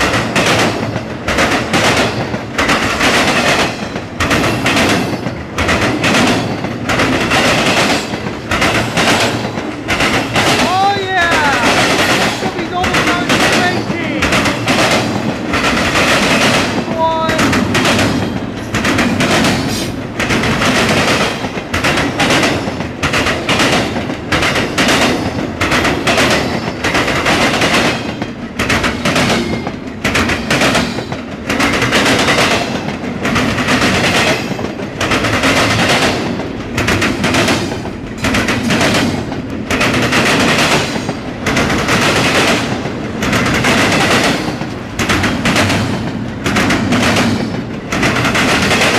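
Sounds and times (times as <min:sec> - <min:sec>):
freight train rumbling past: 0:00.0 - 0:48.9
wheels clattering on rails: 0:00.0 - 0:48.9.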